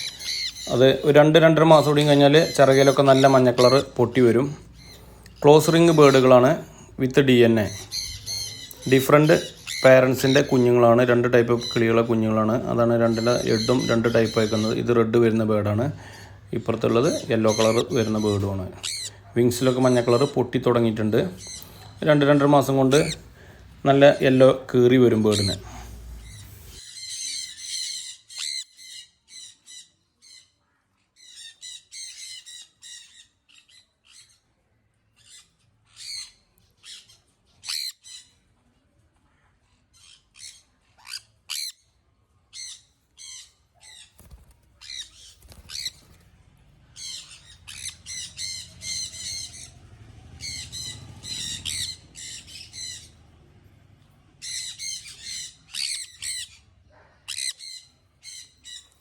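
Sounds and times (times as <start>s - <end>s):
parrots screeching: 0.0s - 34.6s, 35.2s - 38.5s, 39.7s - 46.2s, 46.8s - 53.4s, 54.4s - 59.0s.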